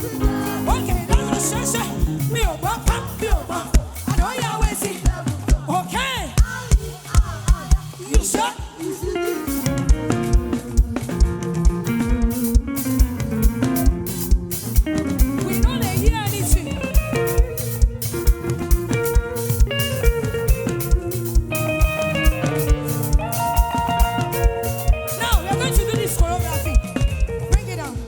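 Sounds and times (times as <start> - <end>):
guitar: 0.0 - 28.0
live band music: 0.0 - 28.0.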